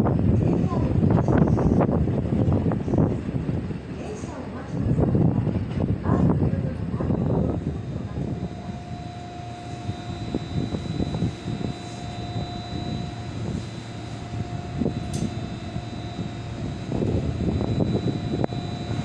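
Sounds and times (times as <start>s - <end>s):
train engine rumble: 0.0s - 19.0s
steady whining tones: 1.2s - 19.0s.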